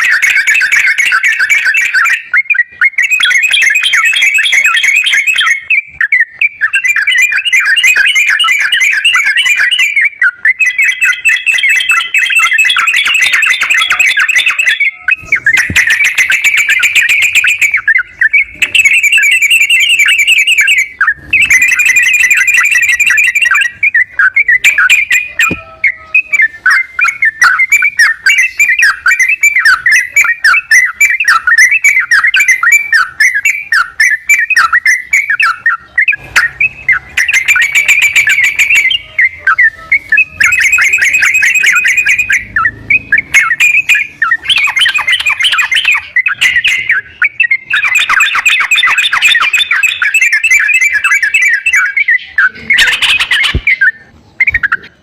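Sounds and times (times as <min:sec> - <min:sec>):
bird song with bubbly chattering: 0:00.0 - 0:55.0.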